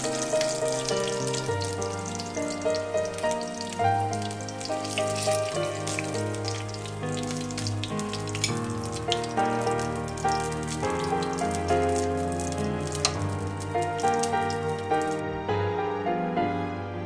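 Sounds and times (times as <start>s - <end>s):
small clicks and splashes: 0.0s - 15.2s
water running from a tap: 0.0s - 15.2s
soft instrumental music: 0.0s - 17.0s.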